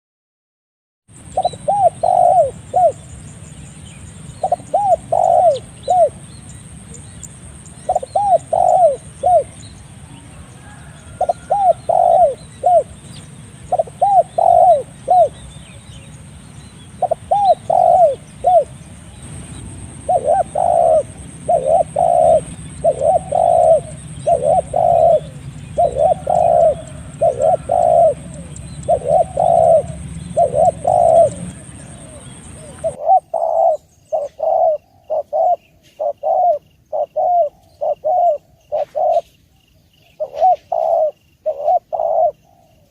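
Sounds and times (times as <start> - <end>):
dove cooing: 1.3 - 3.1, 4.4 - 7.1, 7.8 - 15.8, 16.9 - 18.8, 19.9 - 39.4, 40.0 - 42.9.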